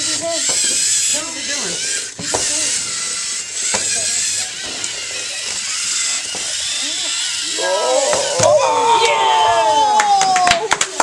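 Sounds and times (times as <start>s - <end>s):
servo motors whirring: 0.0s - 10.2s.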